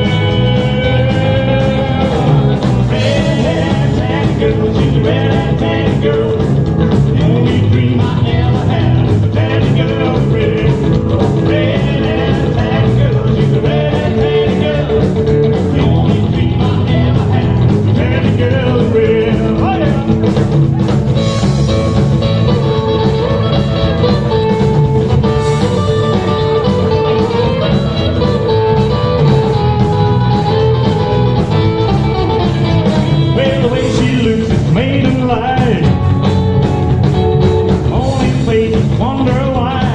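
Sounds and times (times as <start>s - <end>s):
person singing: 0.0s - 36.3s, 37.6s - 39.9s
drums: 0.0s - 39.9s
guitar: 0.0s - 39.9s
rock and roll band playing: 0.0s - 39.9s.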